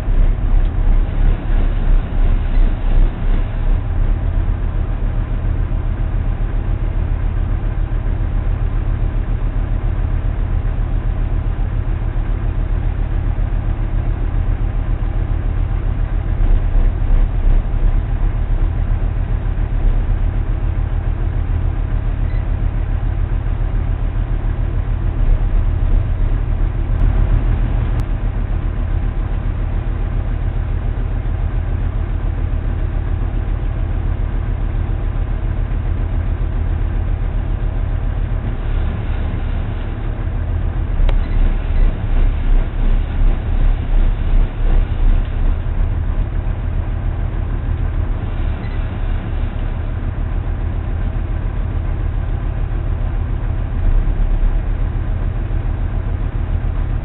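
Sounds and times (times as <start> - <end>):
boat engine low drone: 0.0 - 57.0.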